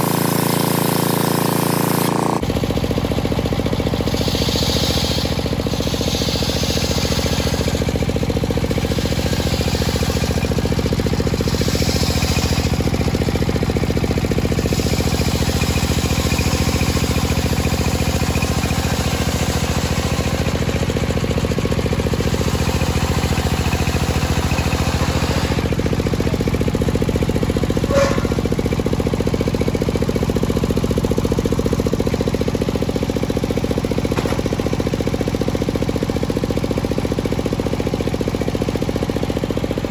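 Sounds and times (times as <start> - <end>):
circular saw cutting wood: 0.0 - 2.5, 3.4 - 35.3.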